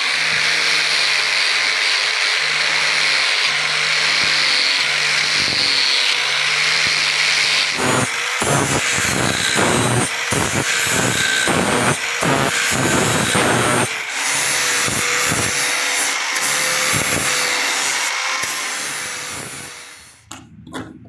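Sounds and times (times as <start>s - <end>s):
angle grinder grinding steel: 0.0s - 20.3s.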